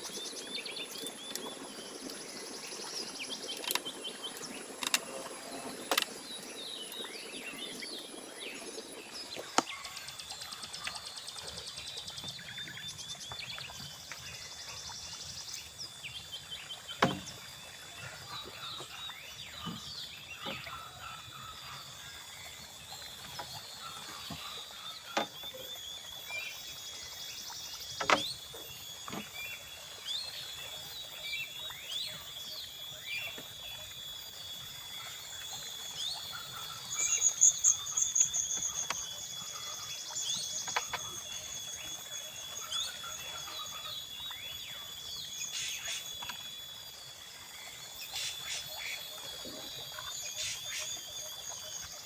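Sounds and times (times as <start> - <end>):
high-pitched insect drone: 0.0 - 52.0
pulsing insect trill: 0.0 - 52.0.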